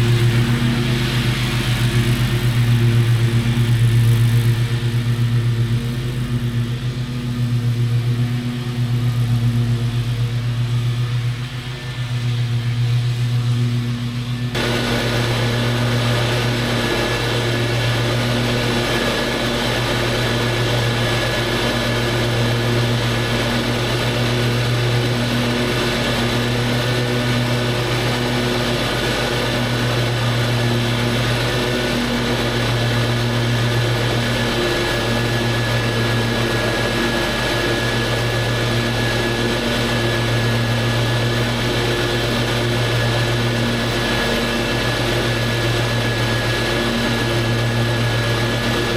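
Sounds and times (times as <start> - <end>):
lawn mower cutting grass: 0.0 - 48.9.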